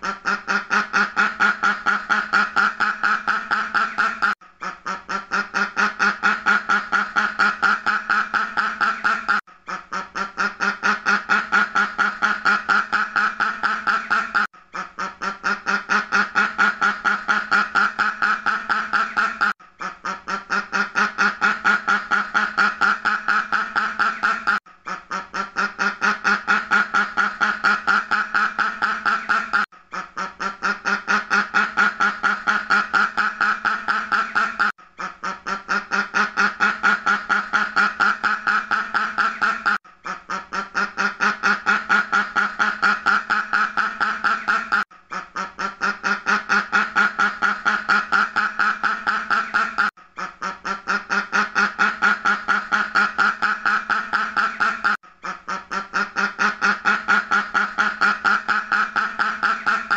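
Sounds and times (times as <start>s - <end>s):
duck quacking rapidly: 0.0s - 59.9s.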